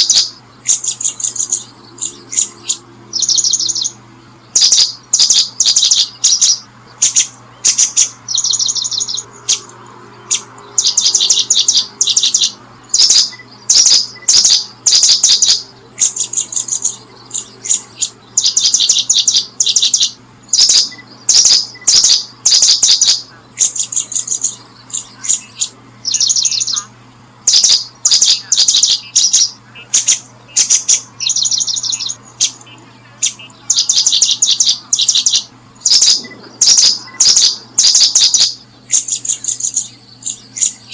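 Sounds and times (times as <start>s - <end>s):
bird chirping: 0.0s - 40.9s
faint low hum: 0.0s - 40.9s.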